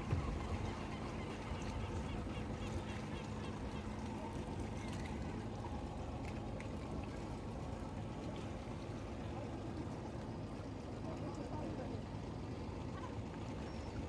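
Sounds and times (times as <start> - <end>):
boat motor running: 0.0 - 14.0
water washing along hull: 0.0 - 14.0.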